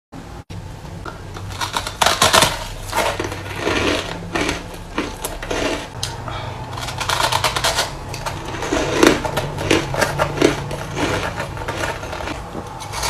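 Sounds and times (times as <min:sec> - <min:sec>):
chewing crushed ice: 0:01.4 - 0:13.0.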